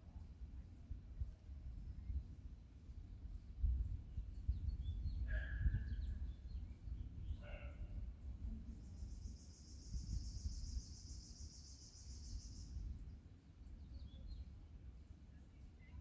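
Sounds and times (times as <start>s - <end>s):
faint bird chirps: 1.8s - 16.0s.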